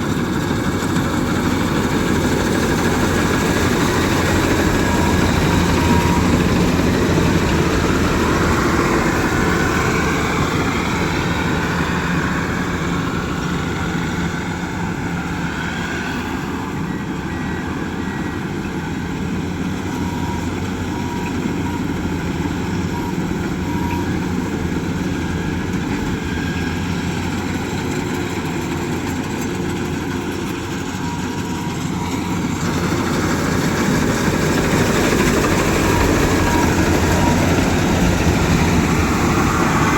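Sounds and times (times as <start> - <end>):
heavy farm machinery engine running: 0.0 - 39.9.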